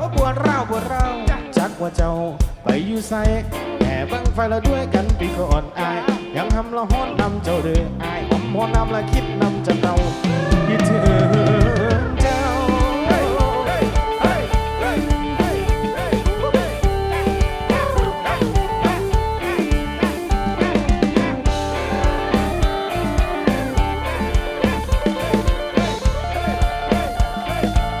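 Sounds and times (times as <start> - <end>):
bass: 0.0 - 28.0
drum kit: 0.0 - 28.0
lead guitar with bending notes: 3.2 - 28.0.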